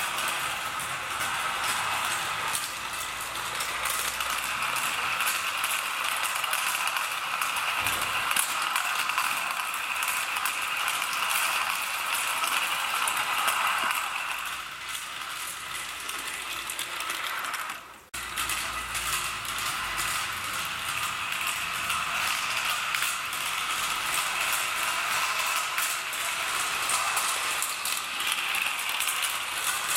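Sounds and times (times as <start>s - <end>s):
model steam locomotive chuffing: 0.0s - 29.9s.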